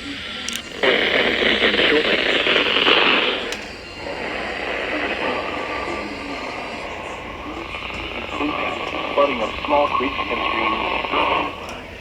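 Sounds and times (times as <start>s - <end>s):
faint broadcast voice: 0.0s - 12.0s
radio static hiss: 0.0s - 12.0s.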